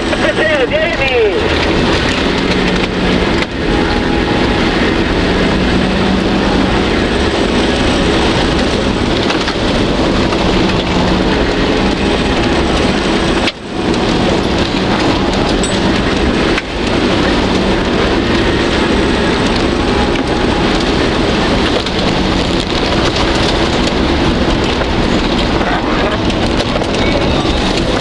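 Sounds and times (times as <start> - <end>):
engine drone: 0.0 - 28.0
wet tyres and spraying mud: 0.0 - 28.0.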